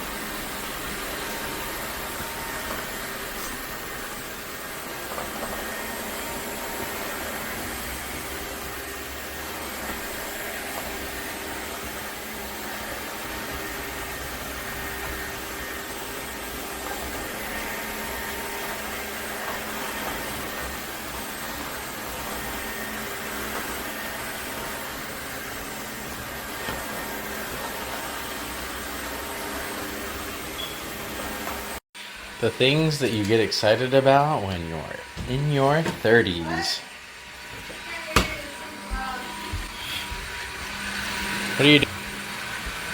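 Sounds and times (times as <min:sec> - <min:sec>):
vacuum mop running: 0:00.0 - 0:42.9.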